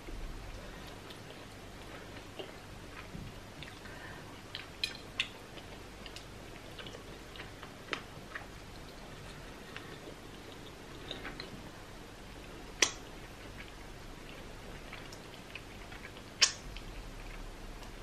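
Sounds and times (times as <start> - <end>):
chewing with wet mouth smacks: 0.5 - 18.0.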